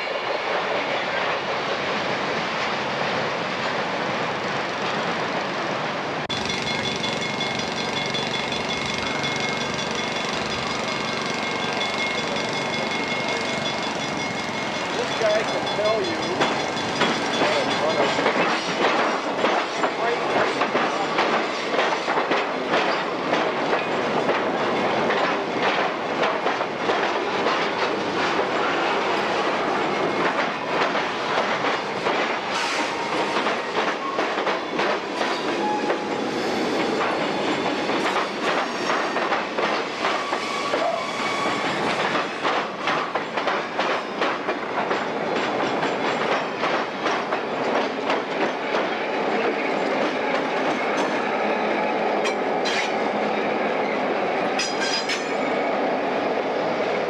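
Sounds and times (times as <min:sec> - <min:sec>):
train wheels clattering over rail joints: 0:06.3 - 0:51.3, 0:52.2 - 0:53.0, 0:54.6 - 0:55.4.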